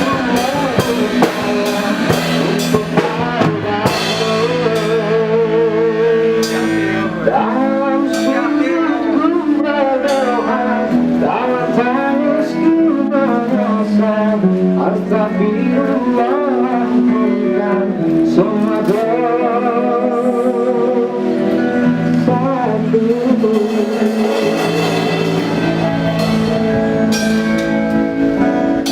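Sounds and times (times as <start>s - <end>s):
guitar accompaniment: 0.0s - 28.9s
person singing: 0.0s - 28.9s.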